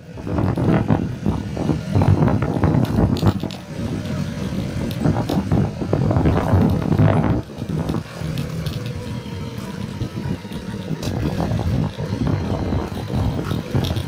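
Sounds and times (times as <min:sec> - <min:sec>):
motorcycle running: 0:00.0 - 0:14.0.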